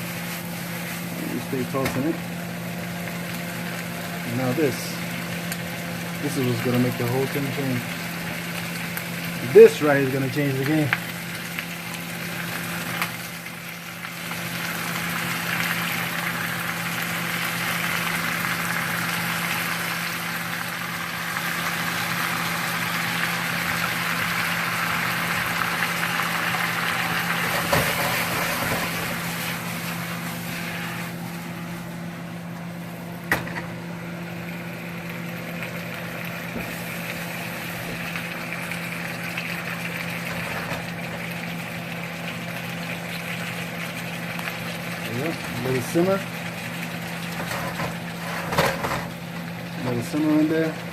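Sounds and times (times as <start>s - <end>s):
food sizzling in a wok: 0.0s - 33.0s, 33.8s - 50.9s
steady low hum: 0.0s - 50.1s.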